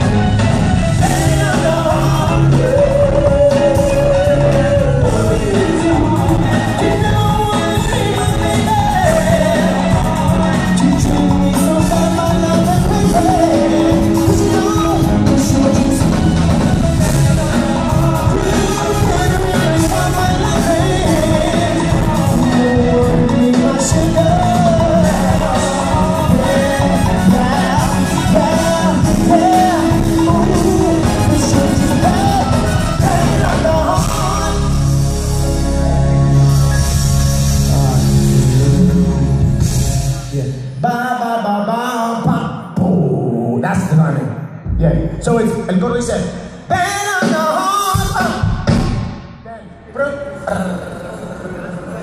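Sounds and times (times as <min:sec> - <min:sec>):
person singing: 0:00.0 - 0:35.7, 0:37.5 - 0:43.5
live band playing: 0:00.0 - 0:52.0.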